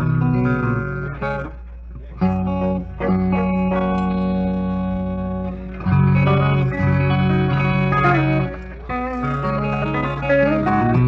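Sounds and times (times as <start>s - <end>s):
electric guitar notes: 0.0s - 11.0s.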